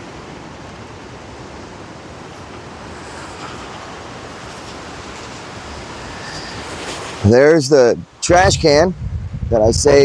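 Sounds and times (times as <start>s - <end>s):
gusty wind on microphone: 0.0s - 10.0s.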